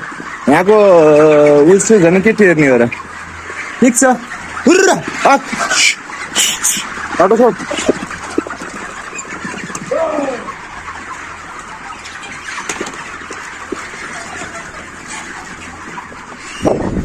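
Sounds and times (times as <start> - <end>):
chickens chirping and clucking: 0.0 - 17.0.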